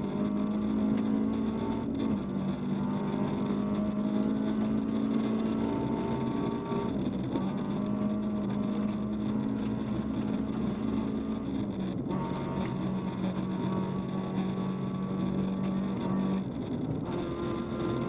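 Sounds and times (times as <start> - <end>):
rally car engine under load: 0.0 - 18.0.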